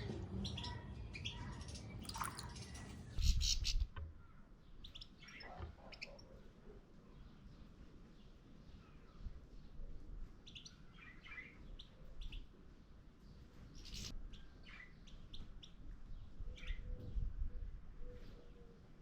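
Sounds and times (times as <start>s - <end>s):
small birds chirping: 0.0s - 17.3s.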